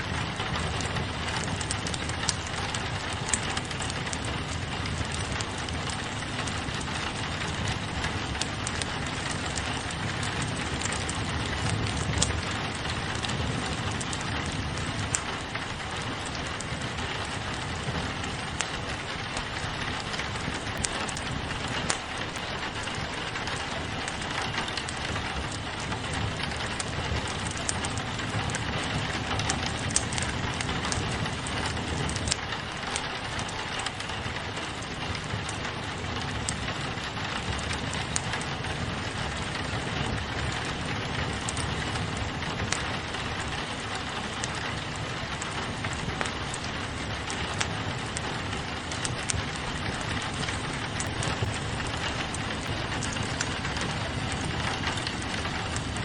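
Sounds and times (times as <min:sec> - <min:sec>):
rain on a window: 0:00.0 - 0:56.0
wood fire crackling: 0:00.0 - 0:56.0.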